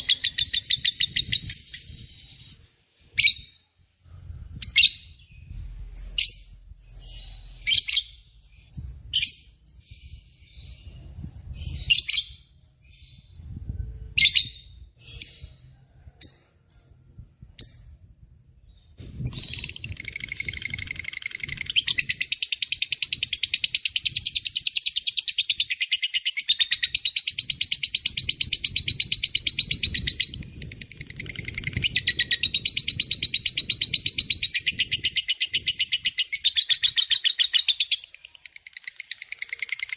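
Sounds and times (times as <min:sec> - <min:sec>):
lovebird chirping and trilling: 0:00.0 - 0:03.7, 0:04.5 - 0:17.0, 0:17.6 - 0:39.9.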